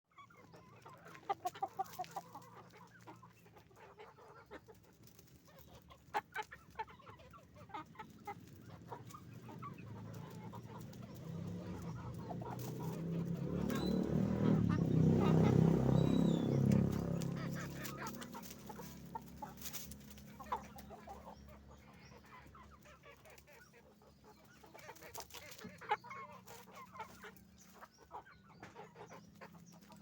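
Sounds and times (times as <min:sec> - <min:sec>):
chickens clucking: 0:00.1 - 0:30.0.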